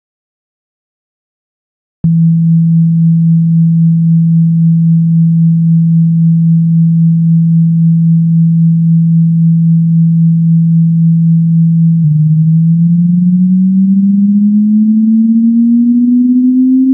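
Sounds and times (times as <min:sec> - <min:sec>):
electronic low tone sweeping up: 0:02.1 - 0:16.9.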